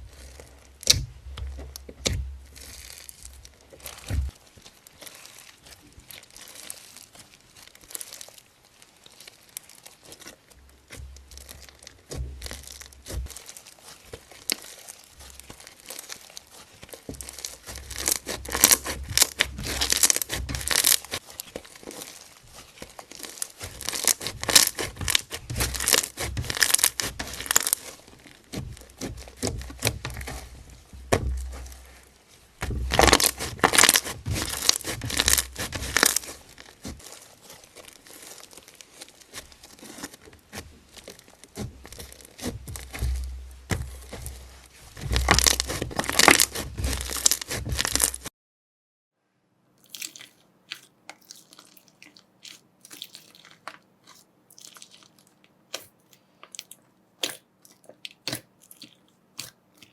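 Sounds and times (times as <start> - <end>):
slime crackling and popping: 0.0 - 48.3, 49.8 - 59.9.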